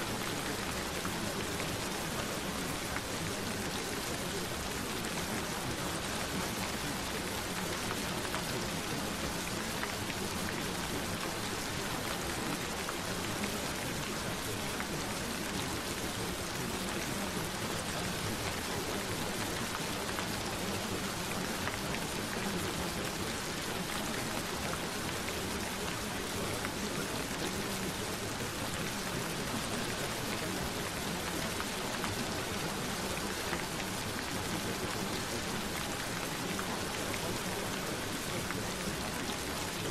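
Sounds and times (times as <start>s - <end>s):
steady gentle rain: 0.0s - 39.9s.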